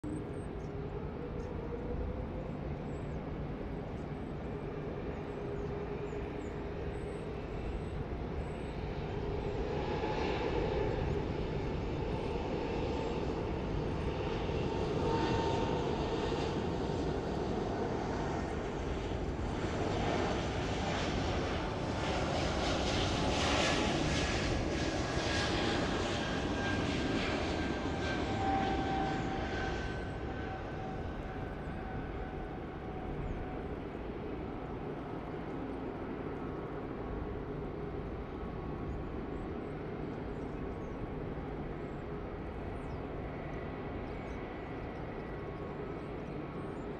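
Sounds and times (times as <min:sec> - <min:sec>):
jet engines during takeoff roll: 0:00.0 - 0:46.9.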